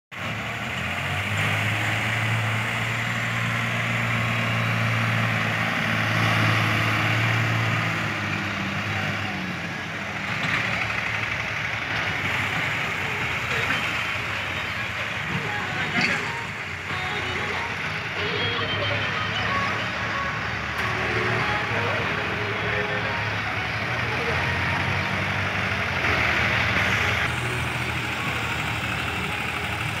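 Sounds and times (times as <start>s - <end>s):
tractor engines droning: 0.1s - 30.0s
distant engine noise: 0.2s - 30.0s.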